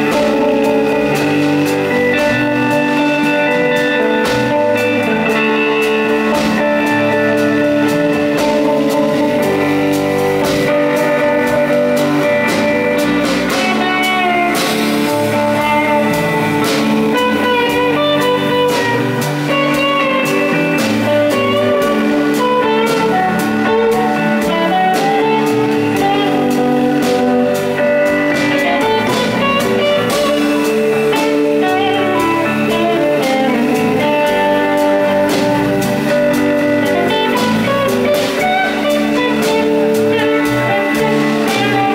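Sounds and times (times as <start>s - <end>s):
bass guitar: 0.0s - 41.9s
drum kit: 0.0s - 41.9s
electric guitars: 0.0s - 41.9s.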